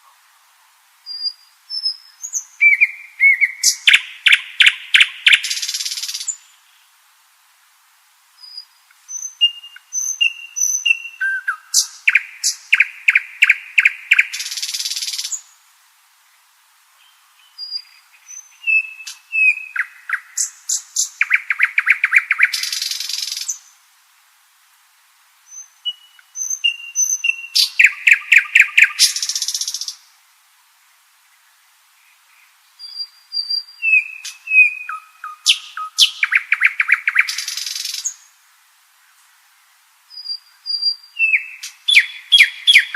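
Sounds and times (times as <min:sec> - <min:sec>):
nightingale singing: 0:01.0 - 0:07.0, 0:08.3 - 0:15.6, 0:16.9 - 0:23.8, 0:25.4 - 0:30.1, 0:31.2 - 0:38.4, 0:39.0 - 0:42.9.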